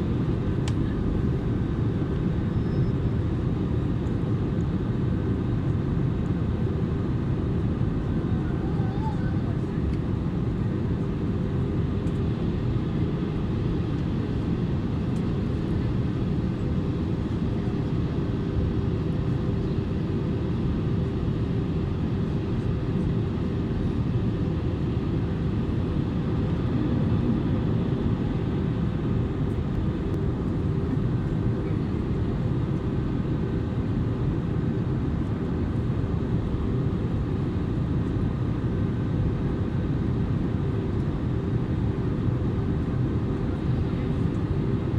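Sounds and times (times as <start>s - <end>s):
jet engine rumble: 0.0s - 44.9s.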